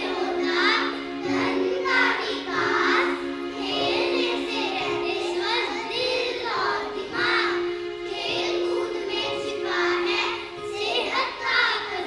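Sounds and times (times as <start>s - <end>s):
background music: 0.0s - 12.0s
children singing together: 0.0s - 12.0s.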